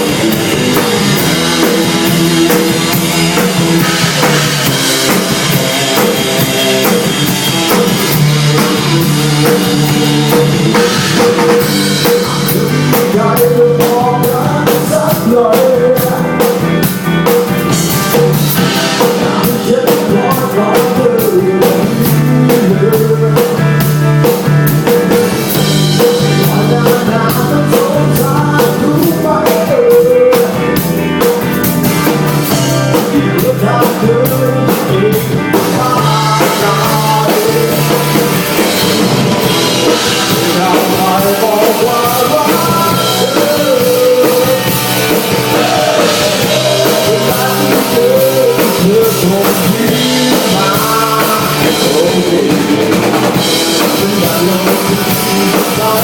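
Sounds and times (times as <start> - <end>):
drum kit steady beat: 0.0 - 56.0
electric guitar and bass: 0.0 - 56.0.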